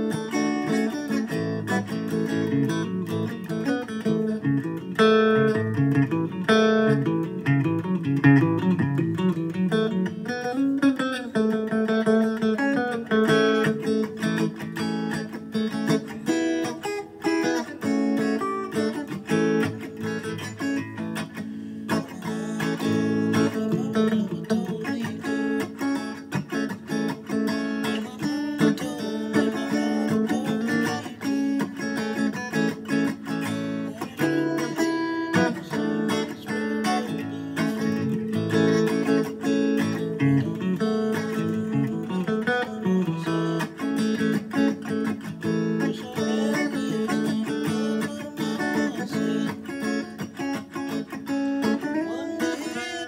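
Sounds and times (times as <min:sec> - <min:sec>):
electric guitar playing: 0:00.0 - 0:53.0.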